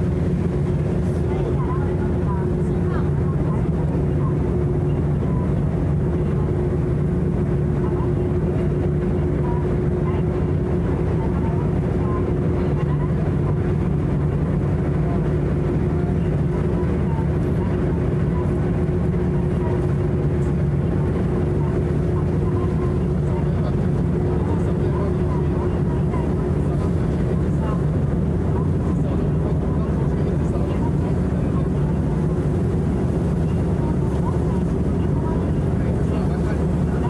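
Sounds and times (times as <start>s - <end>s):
faint indistinct voices: 0.0s - 37.0s
ship engines droning: 0.0s - 37.0s.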